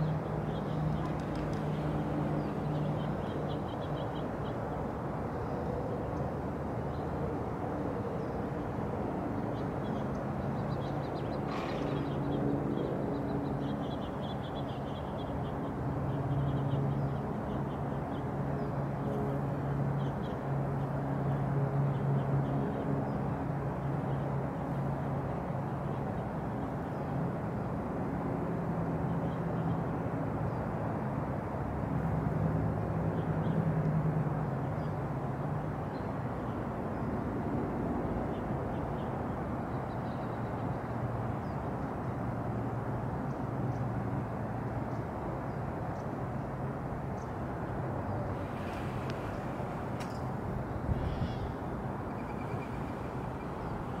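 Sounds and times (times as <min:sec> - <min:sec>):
drone of distant engines: 0:00.0 - 0:54.0.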